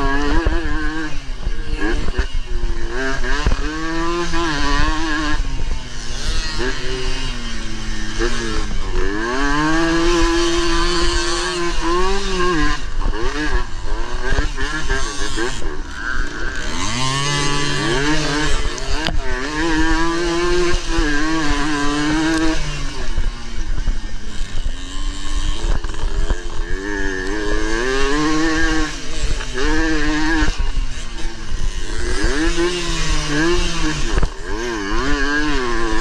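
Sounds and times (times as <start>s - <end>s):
two-stroke engine revving: 0.0s - 36.0s.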